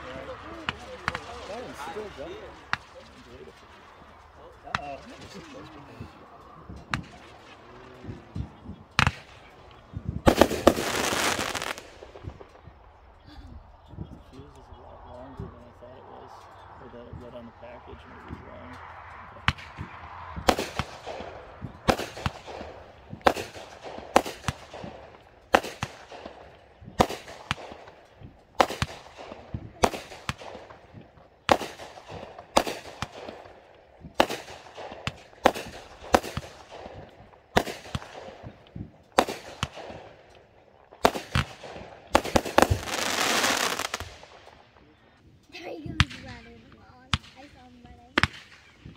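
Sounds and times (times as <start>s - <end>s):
continuous rush of noise: 0.0s - 48.9s
fireworks bangs: 0.0s - 48.9s.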